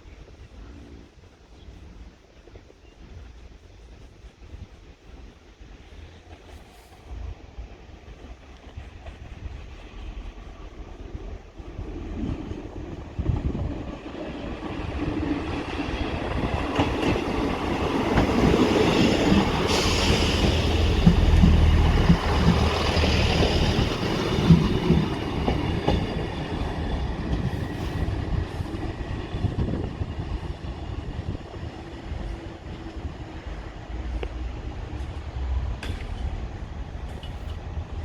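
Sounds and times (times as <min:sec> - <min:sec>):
diesel train passing: 0:00.1 - 0:38.0.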